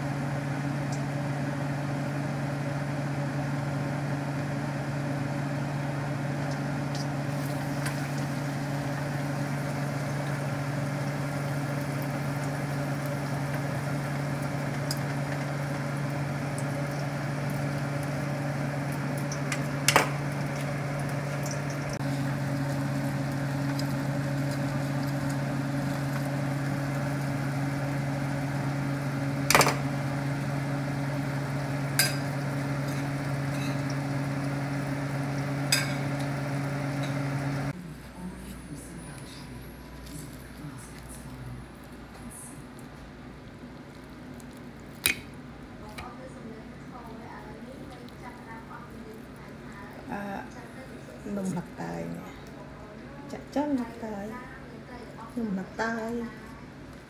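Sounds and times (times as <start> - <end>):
low electric hum: 0.0 - 57.0.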